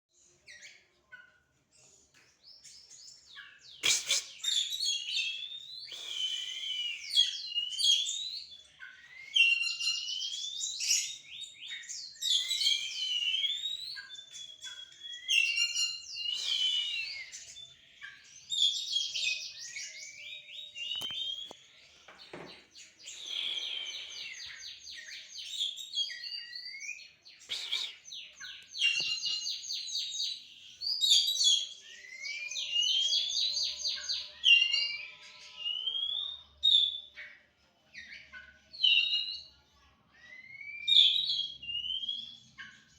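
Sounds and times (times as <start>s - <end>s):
songbirds whistling and trilling: 0.1s - 42.9s.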